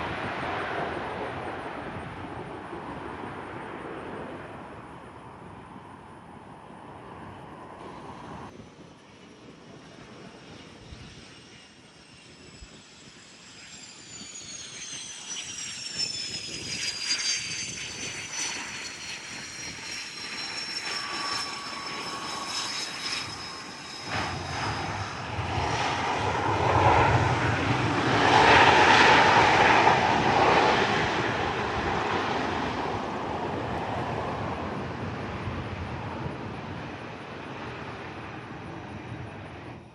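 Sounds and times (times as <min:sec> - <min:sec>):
jet passing: 0:00.0 - 0:39.9.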